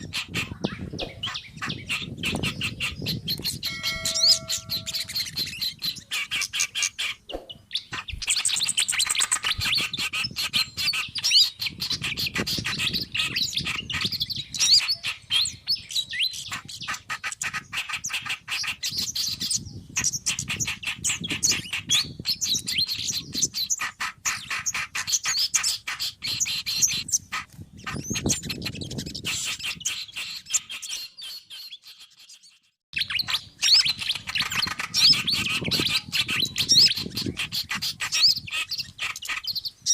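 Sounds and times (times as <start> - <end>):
songbirds chattering and twittering: 0.0 - 39.9.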